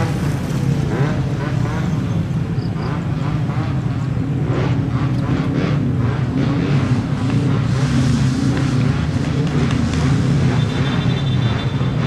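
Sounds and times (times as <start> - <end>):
jet engines at high power: 0.0 - 12.0.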